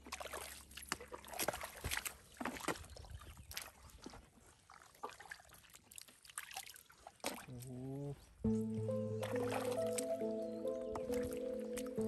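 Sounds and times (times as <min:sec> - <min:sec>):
shallow water sloshing: 0:00.0 - 0:07.6, 0:08.6 - 0:12.0
wet mud squelching: 0:00.0 - 0:12.0.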